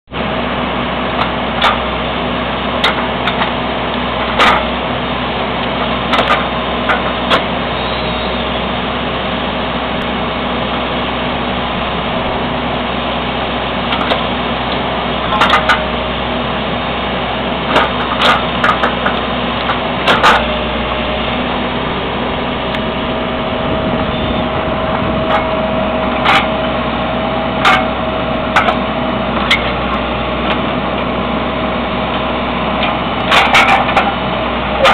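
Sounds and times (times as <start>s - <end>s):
backhoe engine running: 0.1s - 34.9s
hydraulic whine: 0.1s - 34.9s.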